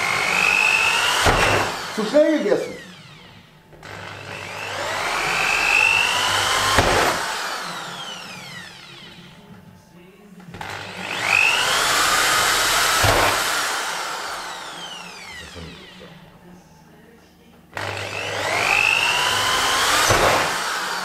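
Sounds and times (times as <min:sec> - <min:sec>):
power drill boring through wood: 0:00.0 - 0:09.6, 0:10.5 - 0:16.4, 0:17.8 - 0:21.0.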